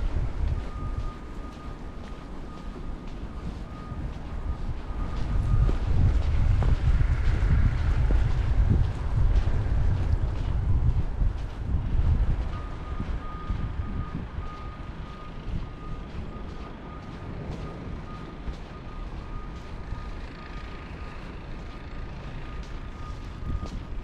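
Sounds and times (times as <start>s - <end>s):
backup alarm beeping: 0.0s - 24.0s
low rumble: 0.0s - 24.0s.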